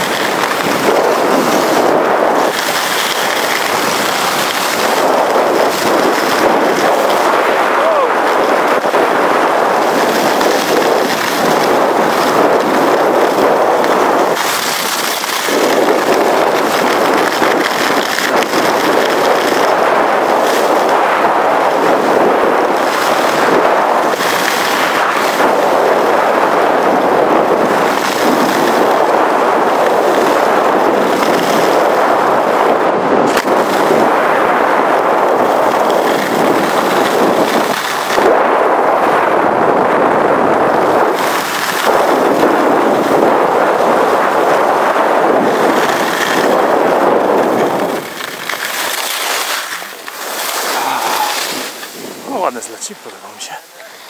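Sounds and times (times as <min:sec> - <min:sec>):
skis scraping over snow: 0:00.0 - 0:54.0
wind buffeting microphone: 0:00.0 - 0:54.0.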